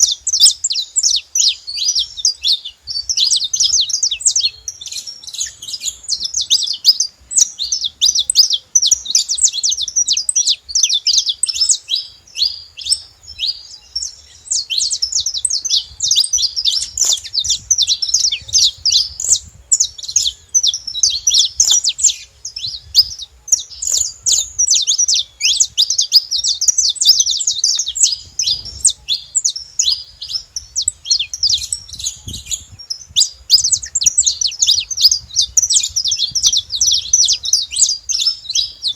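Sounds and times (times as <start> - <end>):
finch chirping song: 0.0 - 38.9.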